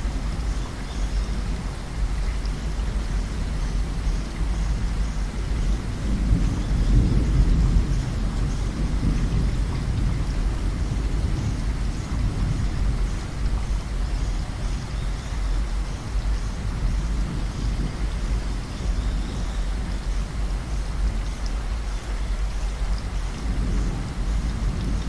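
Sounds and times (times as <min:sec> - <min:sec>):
heavy rain: 0:00.0 - 0:25.0
rolling thunder rumble: 0:01.3 - 0:25.0.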